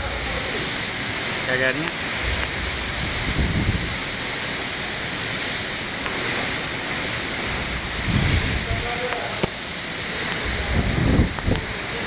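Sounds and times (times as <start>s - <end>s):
steady rain hissing: 0.0s - 12.0s
wind gusting against microphone: 0.0s - 12.0s.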